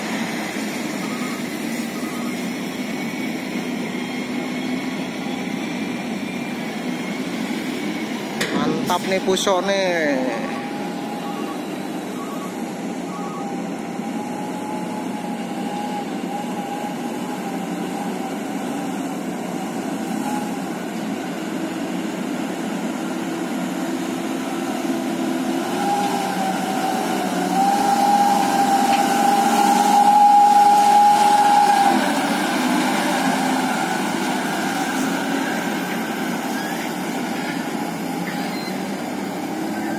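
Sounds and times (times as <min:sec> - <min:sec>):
dump truck diesel engine passing: 0:00.0 - 0:39.9.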